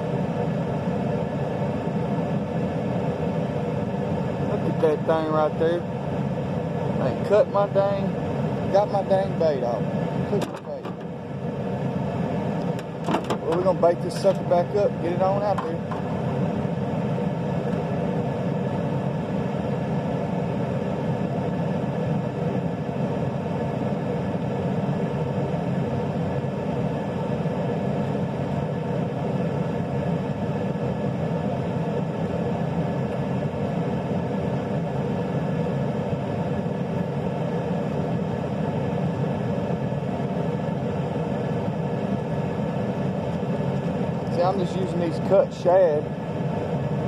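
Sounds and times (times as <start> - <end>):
steady motor drone: 0.0 - 47.0.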